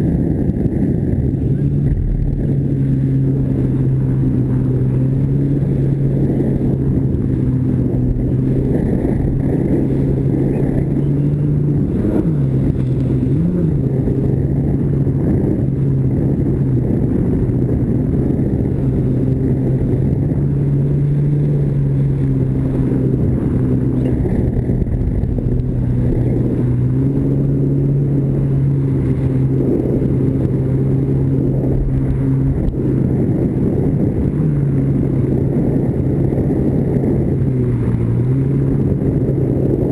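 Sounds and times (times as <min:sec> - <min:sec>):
jet ski engine running: 0:00.0 - 0:39.9
water and wind rushing: 0:00.0 - 0:39.9.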